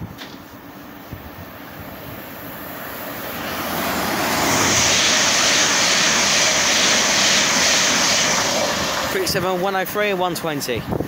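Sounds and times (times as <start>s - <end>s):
train passing at speed: 0.6s - 11.0s.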